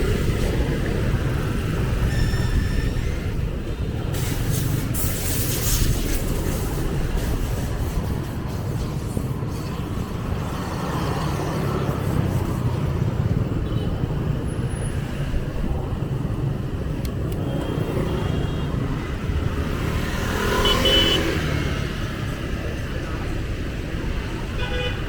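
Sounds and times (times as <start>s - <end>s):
passing vehicle engines: 0.0s - 25.0s
road noise: 0.0s - 25.0s.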